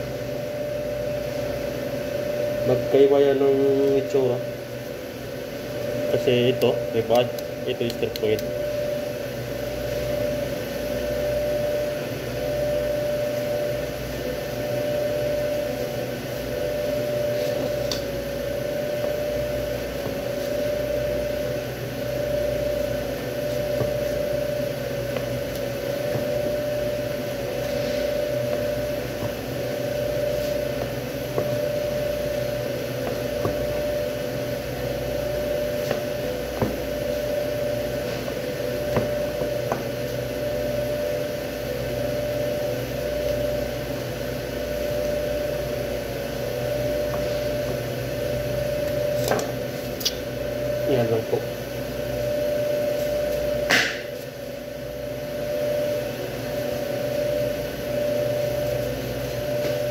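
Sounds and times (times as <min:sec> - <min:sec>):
machinery hum with drone: 0:00.0 - 0:59.9.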